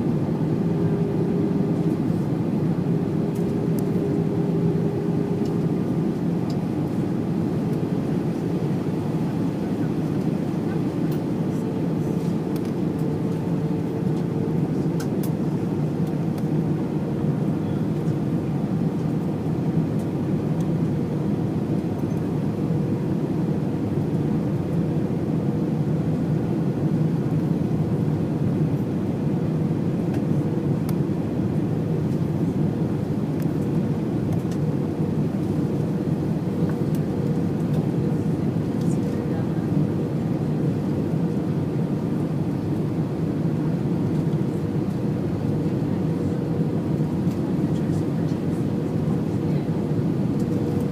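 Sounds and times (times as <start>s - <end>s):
airliner engines rumbling: 0.0s - 50.9s.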